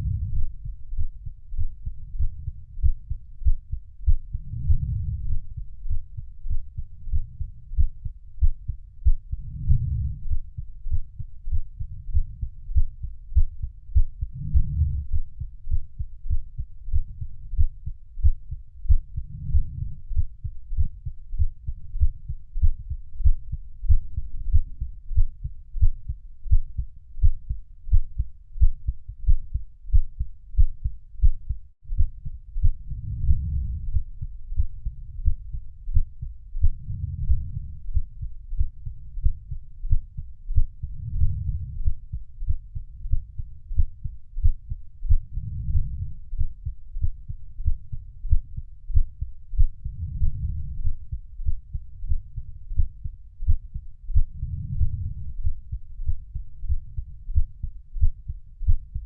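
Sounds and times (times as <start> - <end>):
muffled heartbeat thumps: 0.0 - 59.0.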